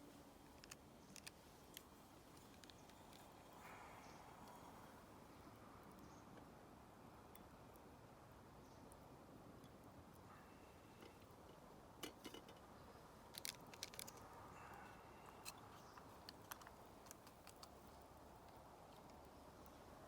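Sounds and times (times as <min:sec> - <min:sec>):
faint sharp clicks and crackles: 0:00.0 - 0:08.0, 0:08.6 - 0:20.0.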